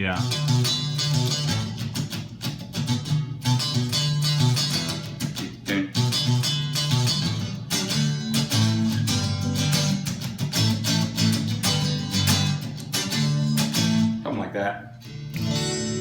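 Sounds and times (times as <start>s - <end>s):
clean electric guitar strumming chords: 0.0s - 16.0s.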